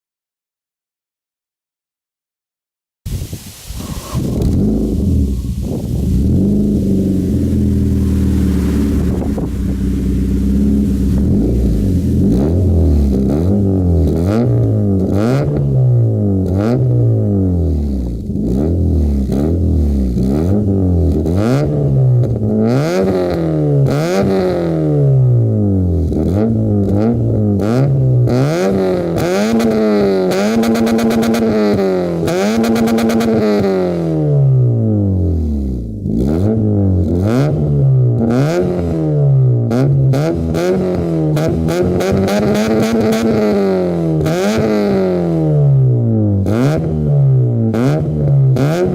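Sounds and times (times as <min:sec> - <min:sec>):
car engine idling and revving: 0:03.8 - 0:48.9.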